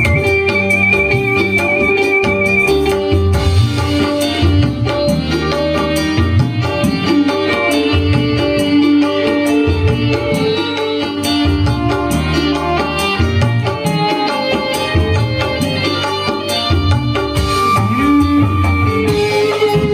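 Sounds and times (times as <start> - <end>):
fast hand-drum rhythm: 0.0 - 19.9
sustained melodic instruments: 0.0 - 19.9.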